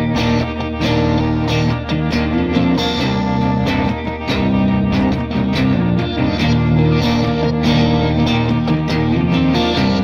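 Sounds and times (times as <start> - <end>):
guitar instrumental music: 0.0 - 10.0.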